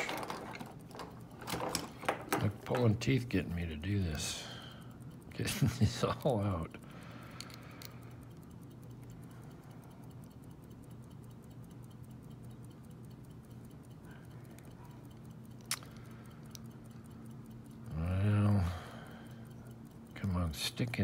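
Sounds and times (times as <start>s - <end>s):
faint regular ticking: 0.0s - 21.0s
steady low hum: 0.0s - 21.0s.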